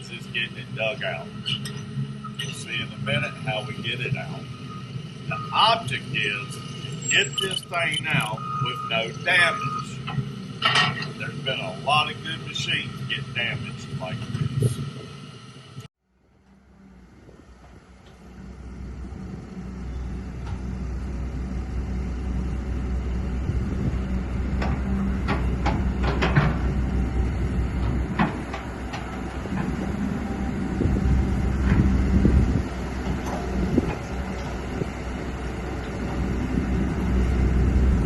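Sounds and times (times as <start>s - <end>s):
excavator diesel engine rumble: 0.0s - 38.0s.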